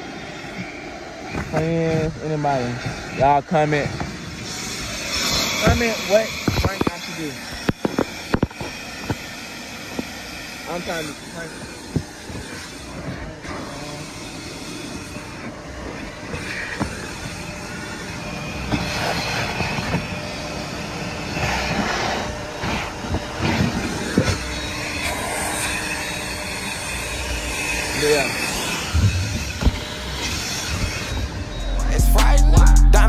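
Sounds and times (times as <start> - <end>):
vacuum hose sucking: 0.0 - 32.0.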